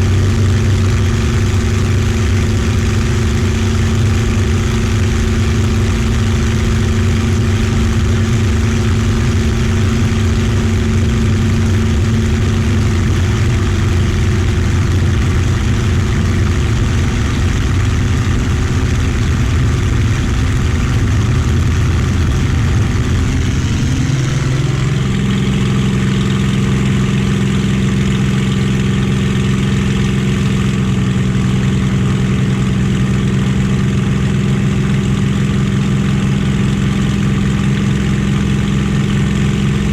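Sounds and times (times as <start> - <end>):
piston aircraft engine running: 0.0 - 39.9.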